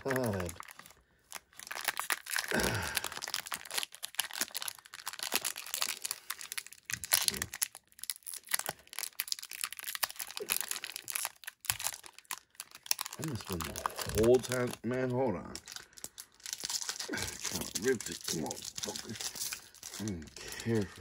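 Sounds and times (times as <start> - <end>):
wrapper tearing rip: 0.0 - 14.8, 15.5 - 21.0
foil wrapper crinkling: 0.0 - 21.0.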